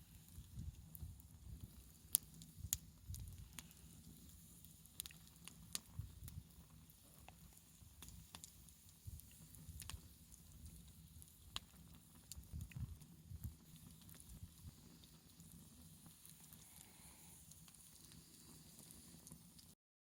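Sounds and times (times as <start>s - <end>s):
wood fire crackling: 0.0s - 19.8s.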